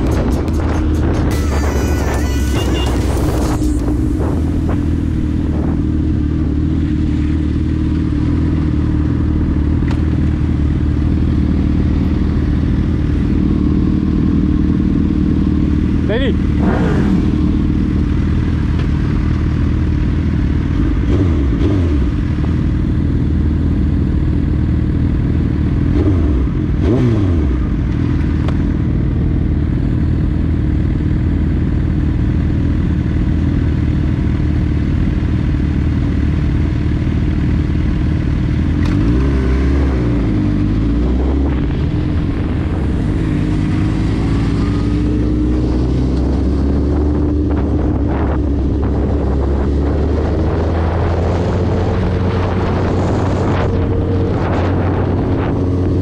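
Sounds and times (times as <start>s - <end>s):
motorcycles revving: 0.0s - 56.0s.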